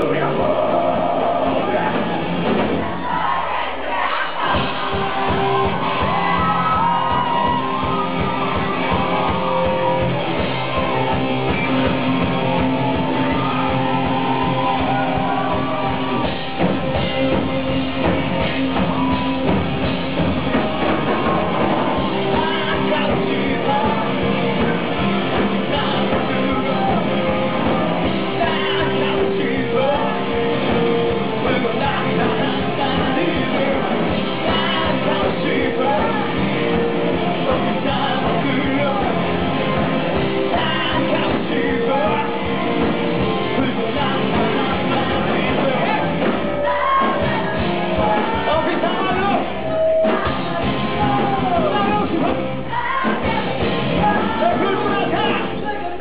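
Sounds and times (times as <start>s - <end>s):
crowd shouting: 0.0s - 56.0s
live pop-rock band: 0.0s - 56.0s.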